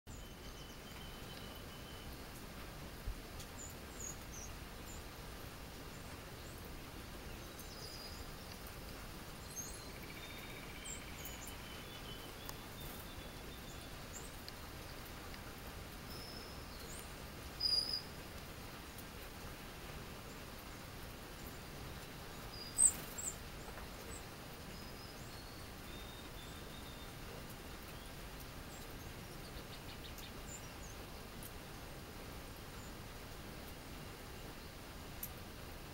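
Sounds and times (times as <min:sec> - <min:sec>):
faint background hiss: 0:00.1 - 0:35.9
songbirds chirping: 0:00.1 - 0:35.9.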